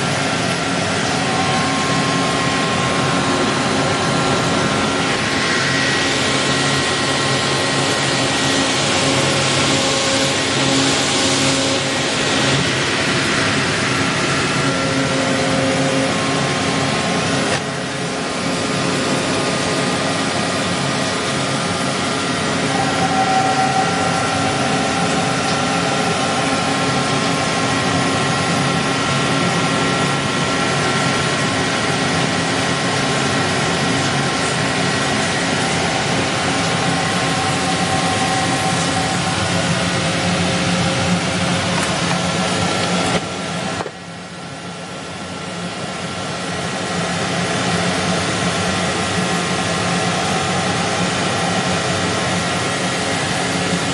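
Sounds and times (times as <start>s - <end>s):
lathe machine whine: 0.0s - 53.9s
noisy hum: 0.0s - 53.9s.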